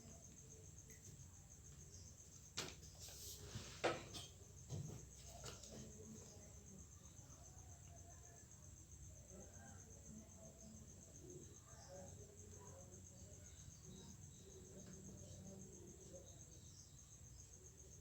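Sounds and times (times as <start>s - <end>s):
faint cricket chirping: 0.0s - 18.0s.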